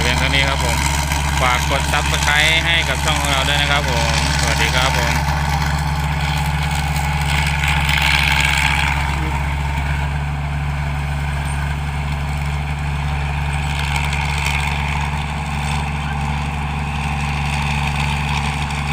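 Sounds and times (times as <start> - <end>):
combine harvester engine droning: 0.0 - 18.9.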